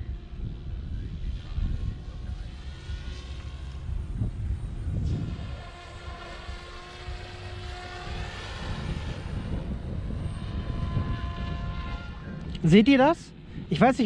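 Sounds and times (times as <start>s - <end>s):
low rumbling noise: 0.0s - 14.0s
rc helicopter motor whine: 0.0s - 14.0s.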